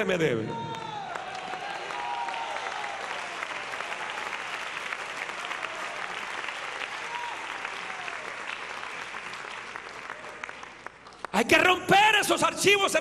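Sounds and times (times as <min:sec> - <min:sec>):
audience applauding: 0:00.6 - 0:11.7.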